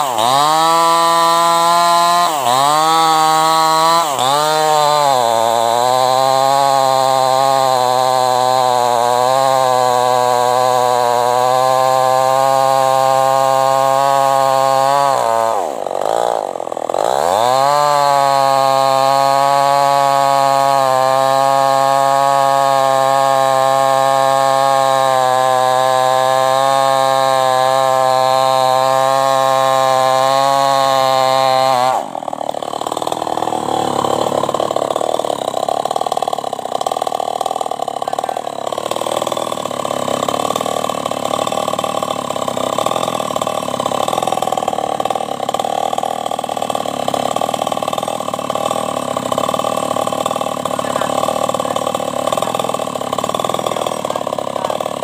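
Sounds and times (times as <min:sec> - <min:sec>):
chainsaw cutting log: 0:00.0 - 0:55.0
chainsaw idling: 0:00.0 - 0:55.0.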